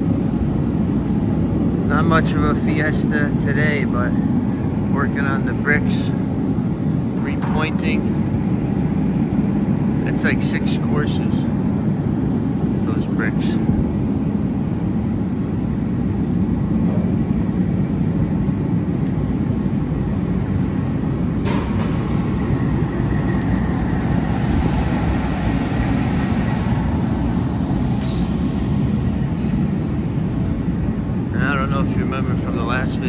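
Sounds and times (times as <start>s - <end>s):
low rumbling noise: 0.0s - 33.0s.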